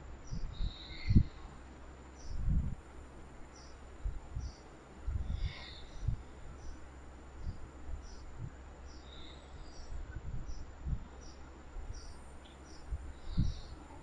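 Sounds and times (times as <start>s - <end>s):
insect chirping: 0.2s - 2.5s, 3.4s - 14.0s.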